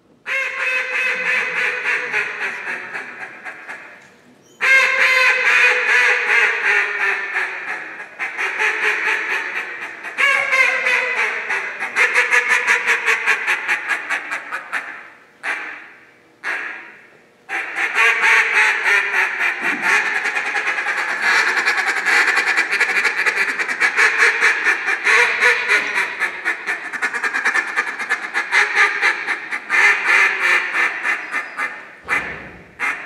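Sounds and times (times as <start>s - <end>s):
duck call quacking: 0.3s - 4.0s, 4.6s - 33.0s.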